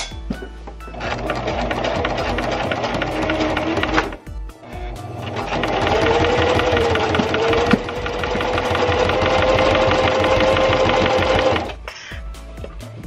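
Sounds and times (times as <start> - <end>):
sewing machine stitching: 0.9 - 11.8.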